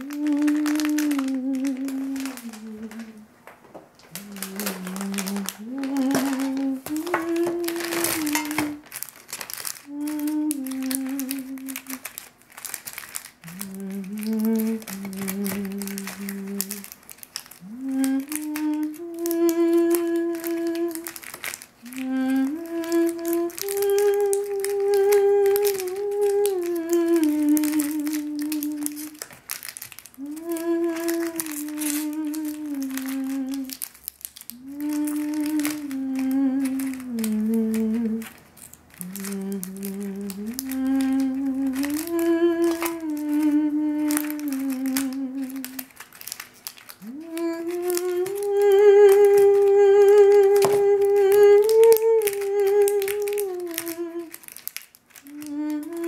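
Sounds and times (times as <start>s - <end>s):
person humming a slow tune: 0.0s - 3.3s, 4.0s - 9.0s, 9.6s - 12.3s, 13.4s - 29.4s, 30.1s - 56.0s
plastic packaging crinkling: 0.0s - 56.0s.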